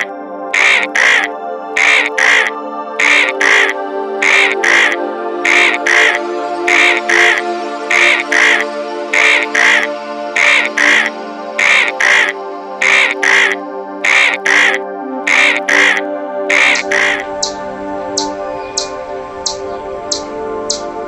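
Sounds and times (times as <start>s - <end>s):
sustained chords: 0.0s - 21.0s.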